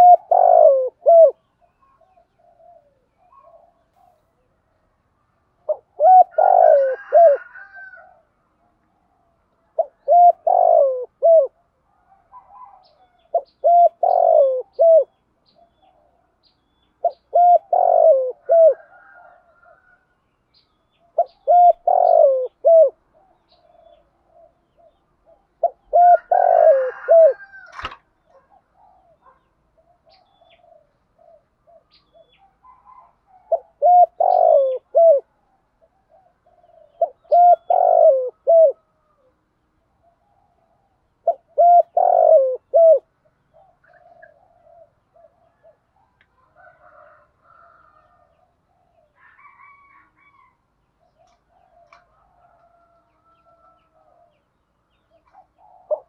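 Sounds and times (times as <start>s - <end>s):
dove cooing: 0.0s - 4.5s, 5.6s - 20.0s, 20.9s - 56.0s.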